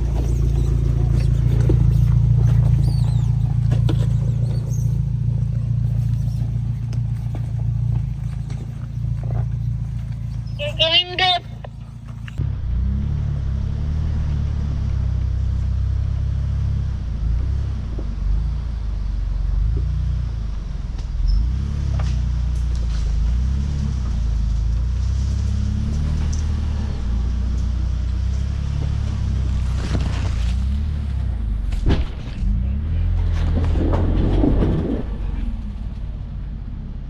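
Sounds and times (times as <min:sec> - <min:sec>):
truck engine low rumble: 0:00.0 - 0:37.0.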